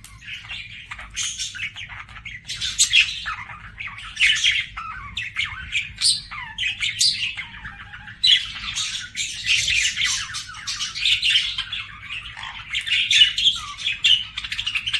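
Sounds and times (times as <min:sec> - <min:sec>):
budgerigars warbling and chirping: 0:00.0 - 0:14.9.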